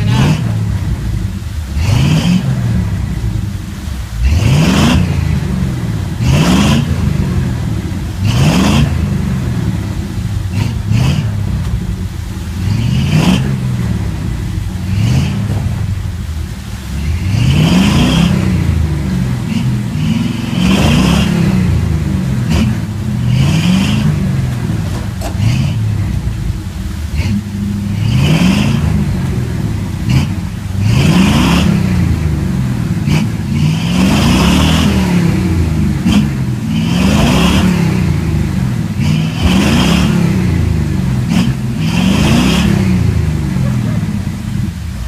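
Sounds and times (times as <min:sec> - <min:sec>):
engine revving: 0:00.0 - 0:45.0.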